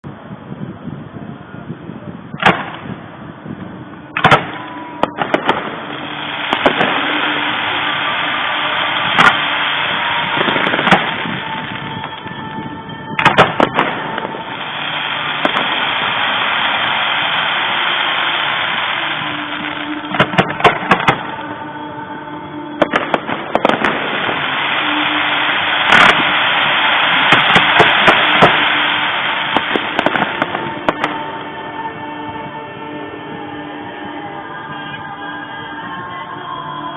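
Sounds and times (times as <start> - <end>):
fireworks bangs: 2.3 - 33.5
rushing noise: 2.4 - 35.9.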